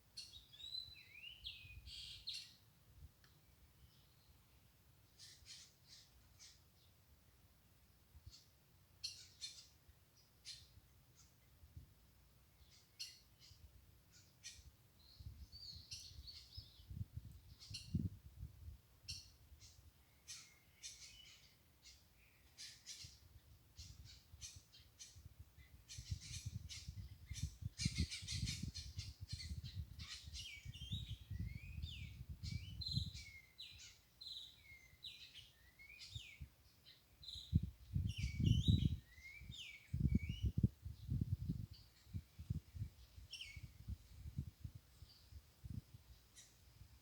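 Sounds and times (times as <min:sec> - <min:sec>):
small birds chirping: 0:00.0 - 0:04.5, 0:05.1 - 0:07.0, 0:08.2 - 0:11.6, 0:12.5 - 0:18.2, 0:19.0 - 0:46.8.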